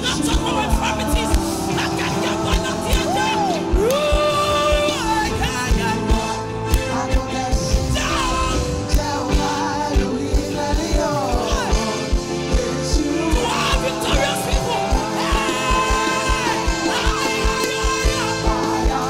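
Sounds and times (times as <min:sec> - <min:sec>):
gospel band playing: 0:00.0 - 0:19.0
group of singers: 0:00.0 - 0:19.0.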